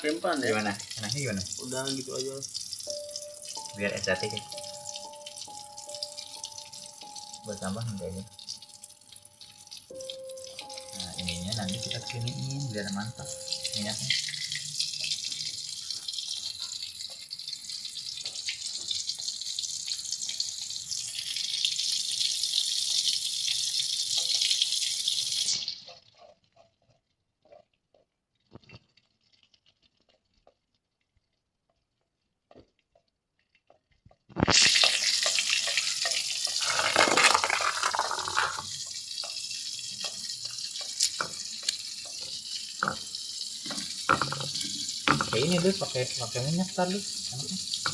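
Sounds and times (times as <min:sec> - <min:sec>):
oil sizzling in a frying pan: 0:00.0 - 0:47.9.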